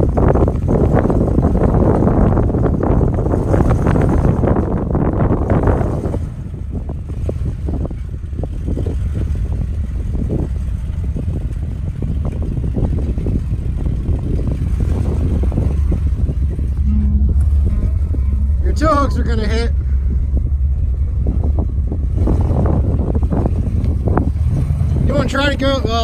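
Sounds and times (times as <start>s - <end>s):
off-road vehicle engine rumbling: 0.0s - 26.0s
wind buffeting microphone: 0.0s - 26.0s.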